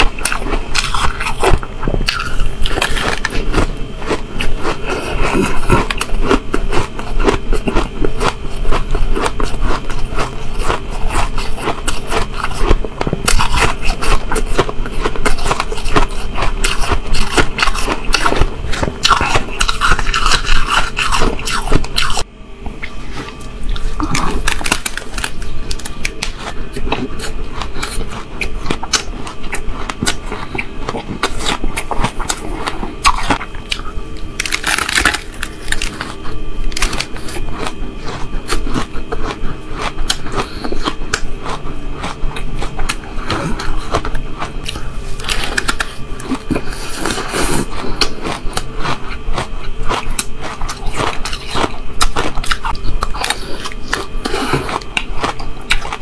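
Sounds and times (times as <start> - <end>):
chewing shaved ice: 0.0 - 56.0.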